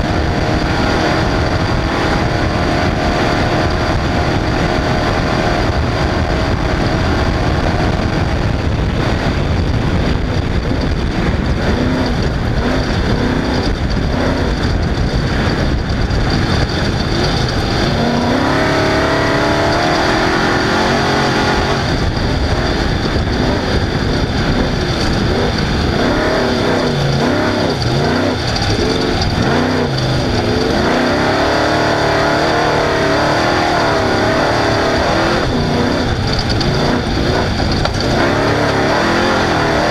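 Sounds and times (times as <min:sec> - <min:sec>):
loud rush of noise: 0:00.0 - 0:39.9
race vehicle engine revving: 0:00.0 - 0:39.9.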